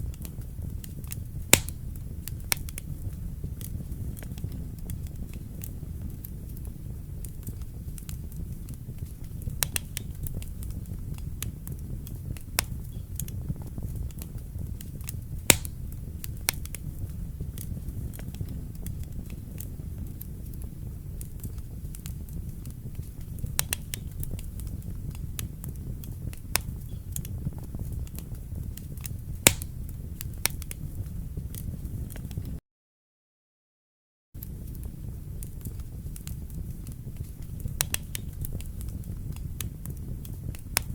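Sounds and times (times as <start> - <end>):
fire crackling and popping: 0.0 - 32.6, 34.4 - 40.9
low rumble of flames: 0.0 - 32.6, 34.4 - 40.9.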